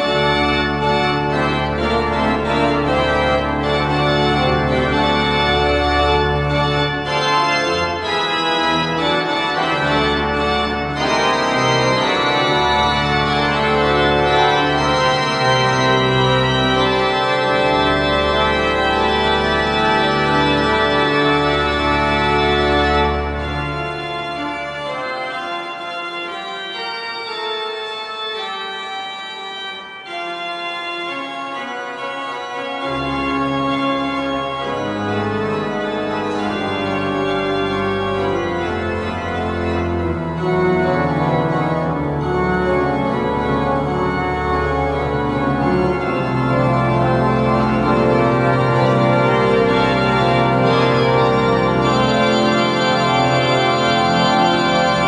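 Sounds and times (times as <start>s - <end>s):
pipe organ playing chords: 0.0s - 55.0s.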